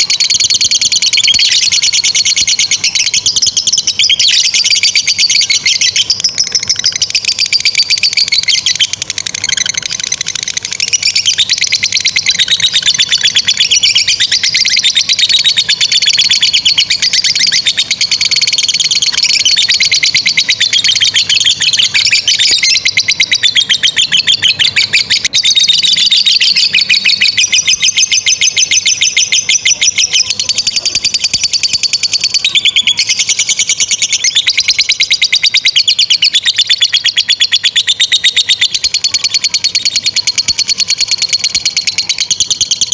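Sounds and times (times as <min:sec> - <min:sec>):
lovebird shrill fast trill: 0:00.0 - 0:42.9.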